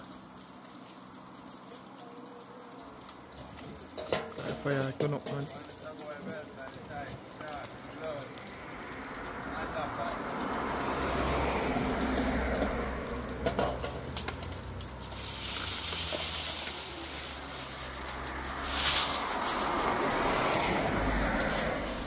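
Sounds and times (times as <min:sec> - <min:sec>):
cooking fire hissing: 0:00.0 - 0:22.0.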